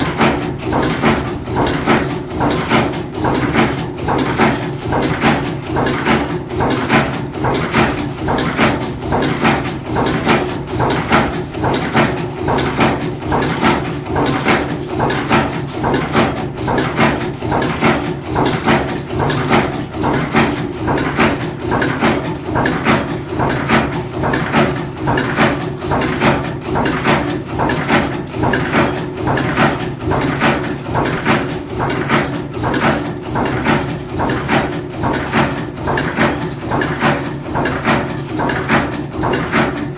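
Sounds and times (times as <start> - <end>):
rhythmic punch strokes: 0.0 - 39.9.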